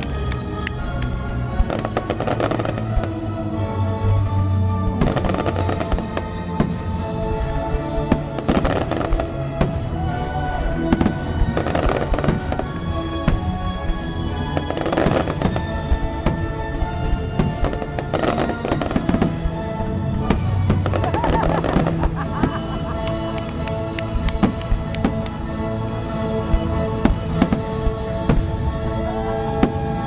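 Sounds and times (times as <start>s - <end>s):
fireworks bangs and crackles: 0.0s - 30.0s
loud music: 0.0s - 30.0s.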